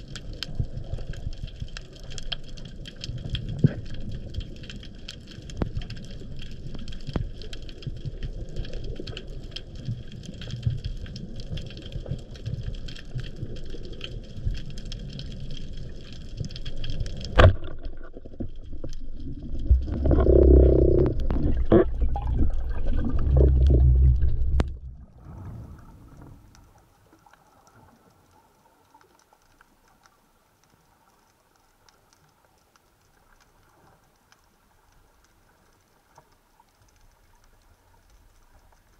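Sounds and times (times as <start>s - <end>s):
underwater low rumble: 0.0s - 38.9s.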